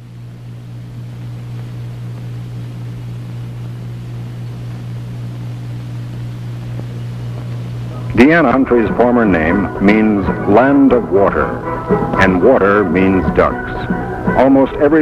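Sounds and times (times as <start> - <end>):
even hiss: 0.0 - 15.0
low hum: 0.0 - 15.0.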